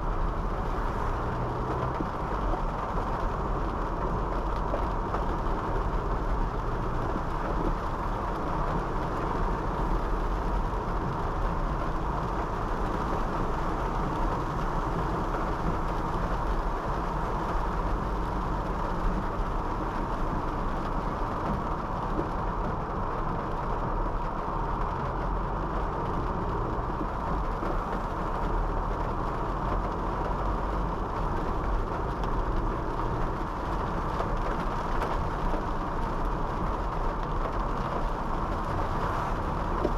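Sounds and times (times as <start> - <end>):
car engine: 0.0 - 39.9
tyre noise on wet road: 0.0 - 39.9.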